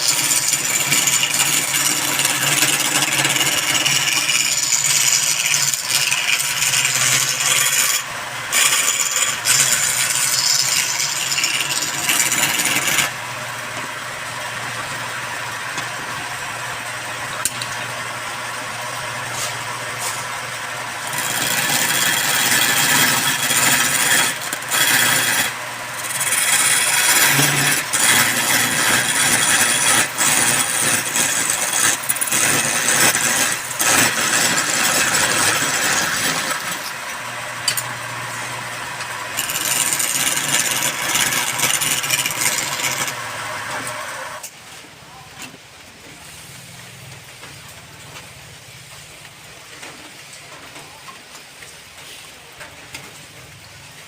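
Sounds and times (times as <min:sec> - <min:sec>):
woodworking machine cutting wood: 0:00.0 - 0:44.5.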